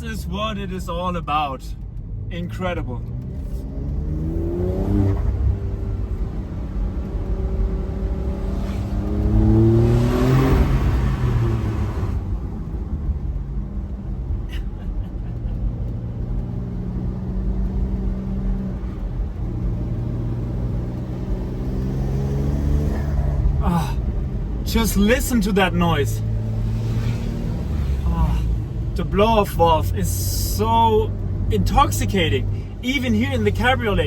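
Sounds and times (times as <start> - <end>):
car engine accelerating: 1.8 - 34.0.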